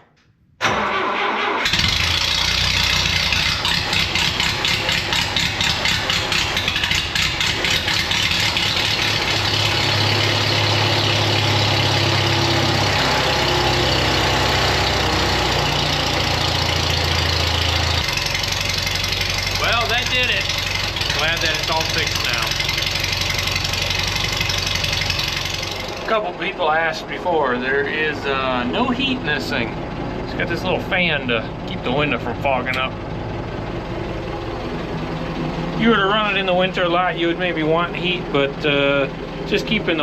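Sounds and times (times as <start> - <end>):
engine cranking: 0.6 - 40.0
engine running unevenly: 0.7 - 40.0.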